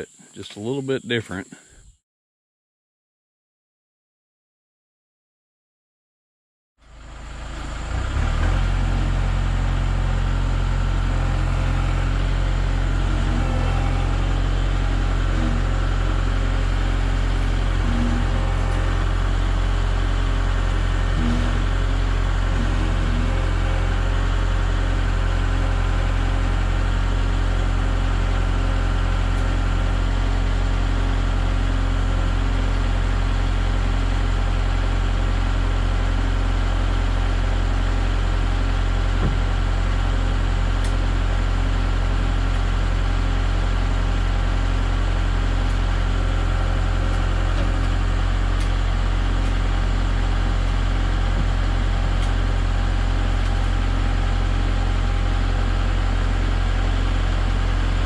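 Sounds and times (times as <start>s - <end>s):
engine idling: 6.8s - 58.0s.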